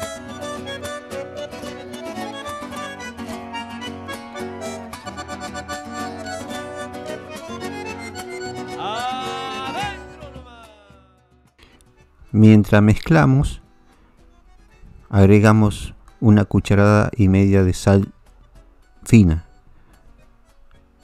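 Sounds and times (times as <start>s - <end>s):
accordion music over steady rhythm: 0.0s - 21.0s.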